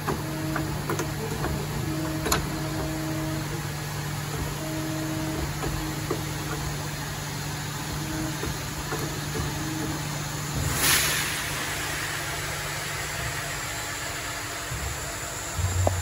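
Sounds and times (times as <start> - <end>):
machine hum: 0.0 - 16.0
machine whine: 0.0 - 16.0.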